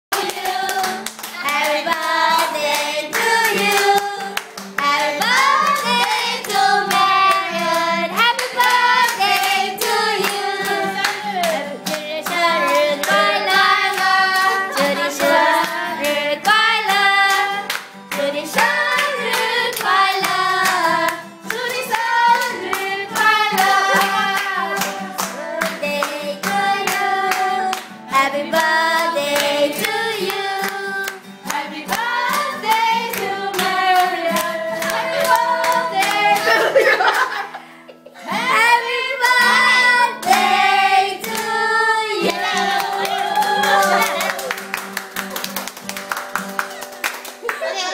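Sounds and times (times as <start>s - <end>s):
voices singing together: 0.1s - 37.5s, 38.2s - 45.3s
strummed acoustic guitar: 0.2s - 47.9s.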